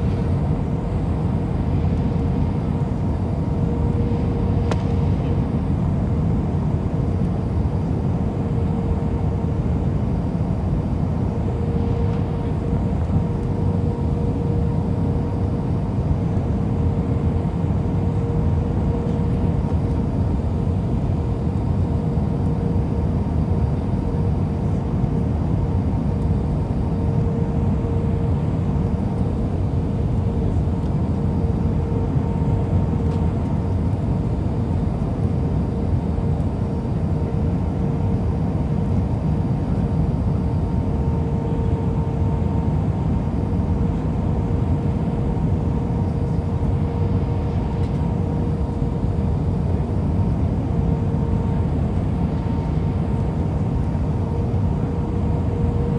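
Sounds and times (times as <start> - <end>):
airliner cabin low rumble: 0.0 - 55.9
constant hum: 0.0 - 55.9.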